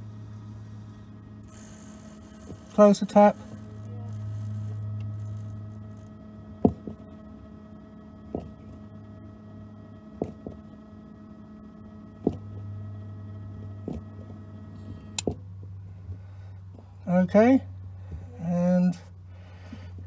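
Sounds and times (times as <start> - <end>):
water pump humming: 0.0 - 16.6.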